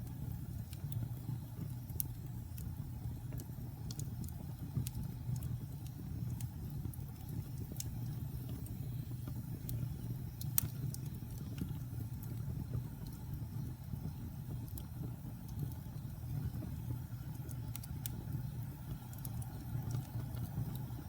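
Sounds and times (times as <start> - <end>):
fire flames rumbling: 0.0 - 21.0
logs crackling and popping: 0.0 - 21.0.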